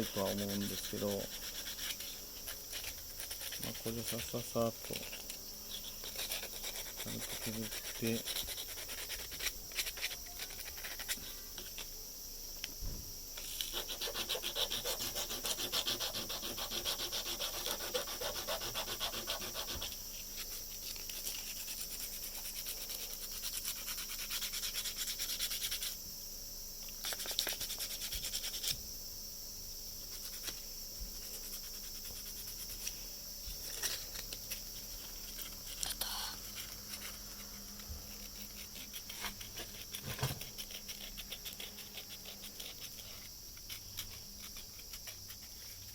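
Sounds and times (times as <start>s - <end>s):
sandpaper scratching plastic: 0.0s - 11.9s, 13.4s - 26.0s, 27.0s - 28.7s, 33.6s - 45.9s.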